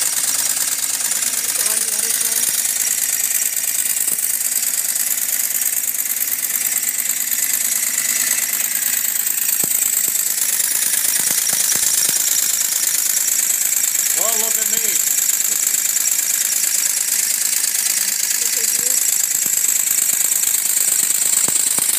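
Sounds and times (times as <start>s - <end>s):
model engine running with rattle: 0.0s - 21.9s
sharp clicks: 0.0s - 21.9s.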